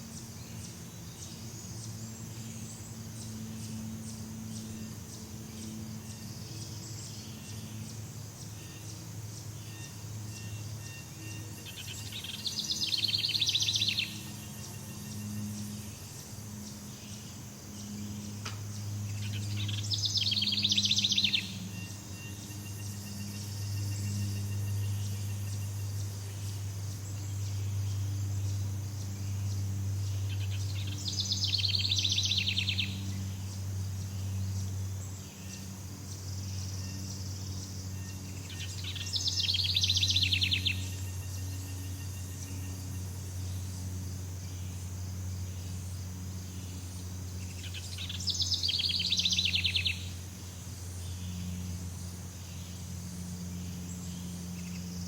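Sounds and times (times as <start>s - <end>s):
high insect drone: 0.0s - 55.0s
low steady hum: 0.0s - 55.0s.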